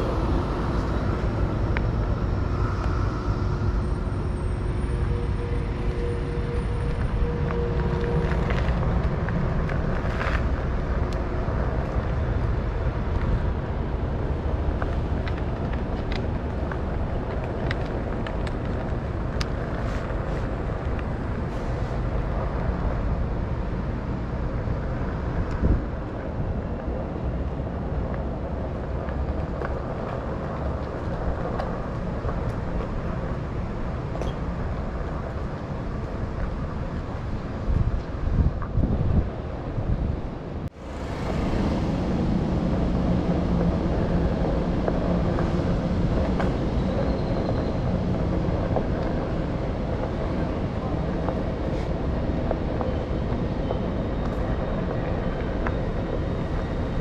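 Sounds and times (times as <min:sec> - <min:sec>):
street and road noise rumble: 0:00.0 - 0:57.0.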